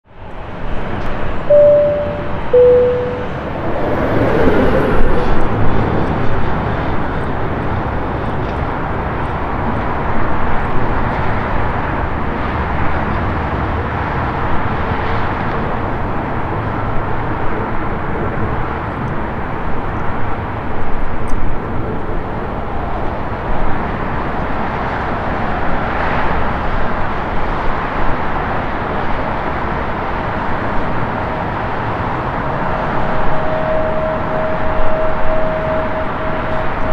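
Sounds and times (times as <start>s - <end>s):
jet engines taxiing: 0.2s - 13.3s, 15.1s - 36.9s.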